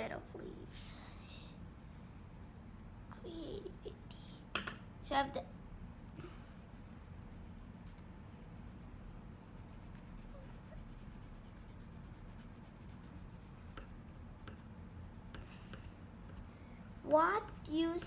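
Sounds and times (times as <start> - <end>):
colour pencil scratching on paper: 0.0 - 4.4, 6.5 - 18.0
steady low hum: 0.0 - 18.0.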